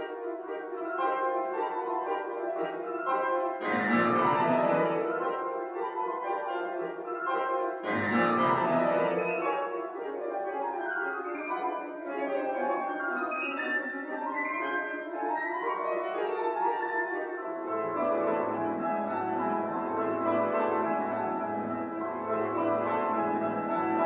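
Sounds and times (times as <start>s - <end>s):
two pianos playing classical: 0.0s - 24.0s.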